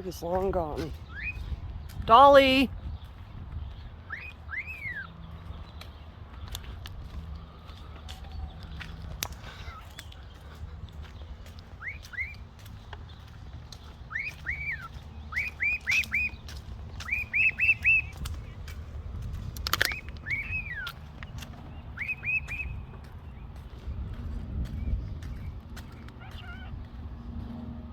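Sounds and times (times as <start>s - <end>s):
bird chirping: 0.0s - 6.8s, 7.4s - 27.0s.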